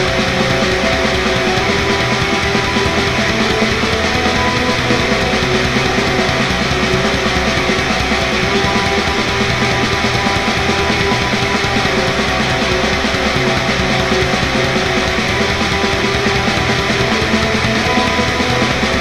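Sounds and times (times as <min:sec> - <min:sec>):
distorted electric guitar: 0:00.0 - 0:19.0
heavy metal song: 0:00.0 - 0:19.0.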